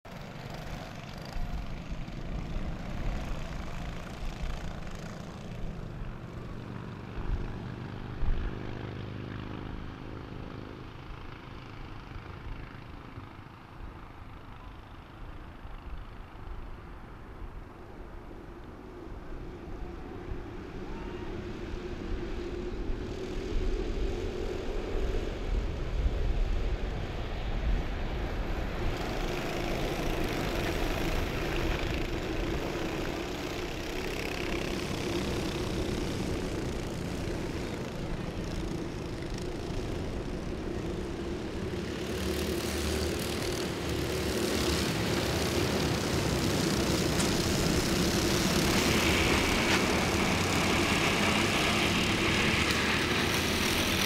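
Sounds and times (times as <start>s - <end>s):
racing kart engines buzzing: 0.1s - 54.0s.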